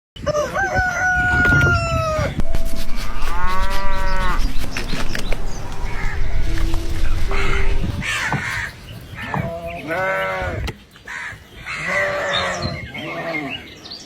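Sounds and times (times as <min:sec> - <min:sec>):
farm animals calling: 0:00.2 - 0:14.0.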